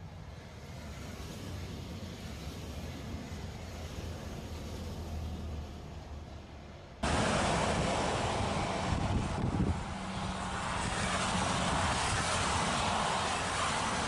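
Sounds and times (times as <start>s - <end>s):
wind and drizzle: 0.0s - 14.0s.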